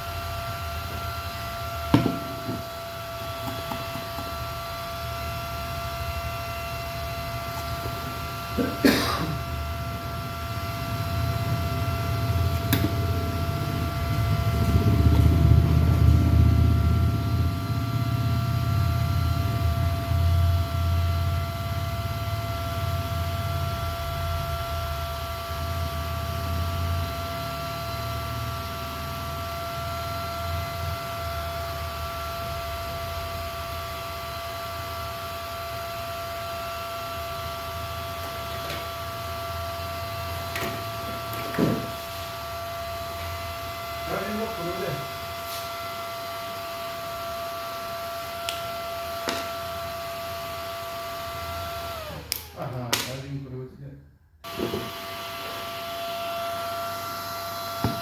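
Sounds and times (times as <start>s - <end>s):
high electrical whine: 0.0s - 53.0s.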